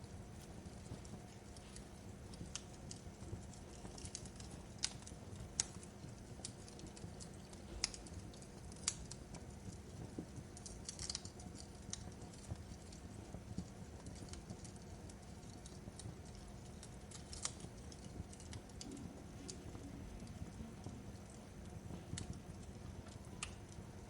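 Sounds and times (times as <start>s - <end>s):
fireplace fire crackling: 0.0s - 24.0s.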